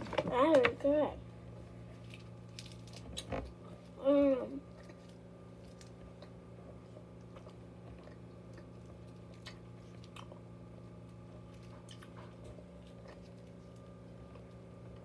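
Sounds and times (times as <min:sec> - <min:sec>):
steady low hum: 0:00.0 - 0:15.0
candy crunching while chewed: 0:01.9 - 0:15.0.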